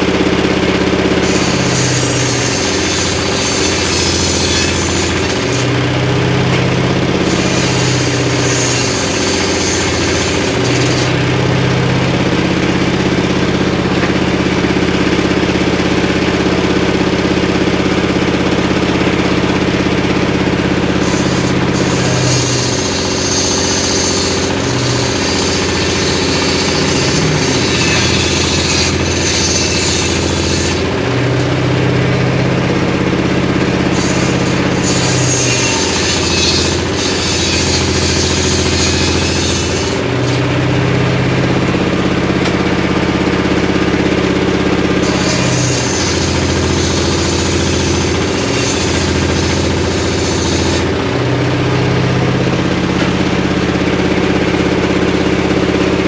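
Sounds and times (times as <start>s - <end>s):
circular saw ripping wood: 0.0s - 56.0s
engine running: 0.0s - 56.0s.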